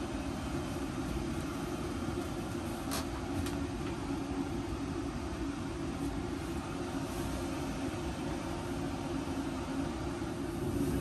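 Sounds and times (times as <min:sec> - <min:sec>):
heater fan and burner rushing: 0:00.0 - 0:11.0
low hum: 0:00.0 - 0:11.0.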